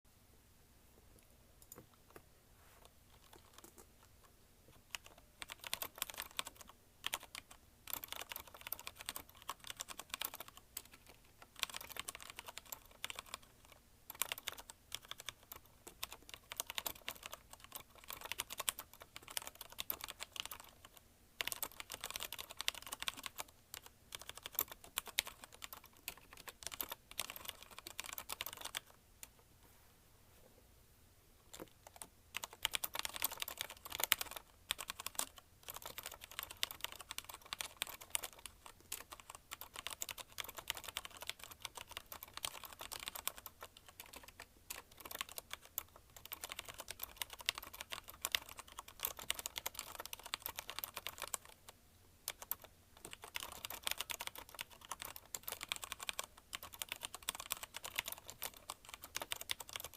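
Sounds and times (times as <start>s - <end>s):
fast mechanical keyboard typing: 3.1s - 3.9s, 4.9s - 28.9s, 31.5s - 51.7s, 52.3s - 59.9s.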